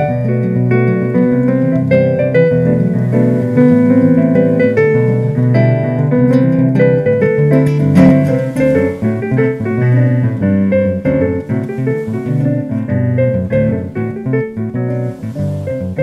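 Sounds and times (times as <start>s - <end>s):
classical guitar accompanying: 0.0s - 16.0s
digital piano melody: 0.0s - 16.0s.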